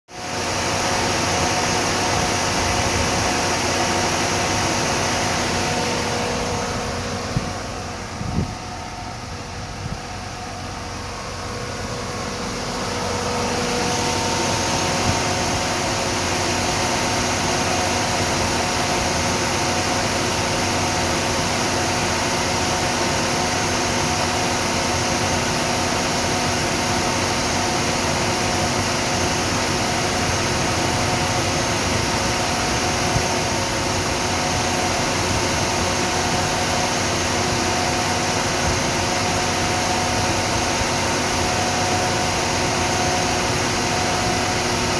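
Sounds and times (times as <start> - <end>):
car engine running: 0.1 - 44.9.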